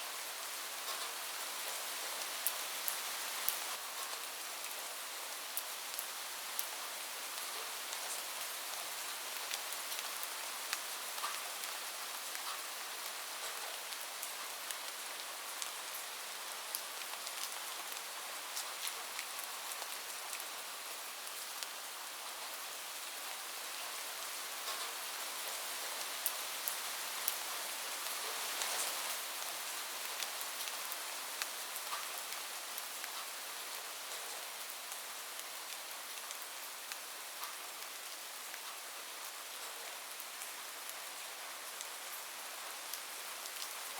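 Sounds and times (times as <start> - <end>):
rain on a roof: 0.0 - 43.9.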